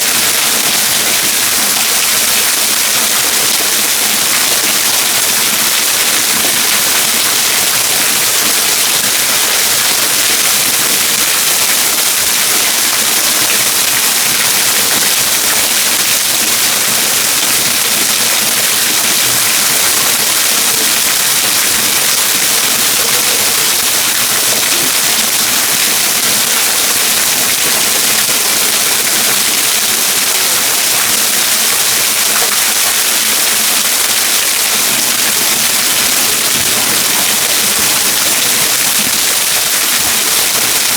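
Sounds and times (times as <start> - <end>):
waterfall pouring: 0.0 - 40.9.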